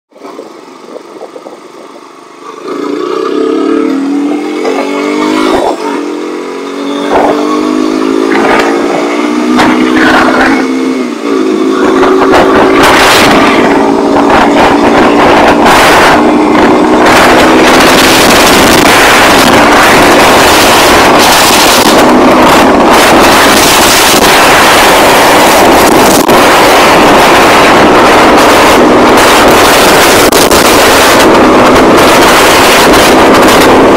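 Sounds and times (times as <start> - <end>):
wind rush on microphone: 0.1 - 2.1, 2.7 - 33.9
motorcycle engine accelerating: 0.1 - 33.9.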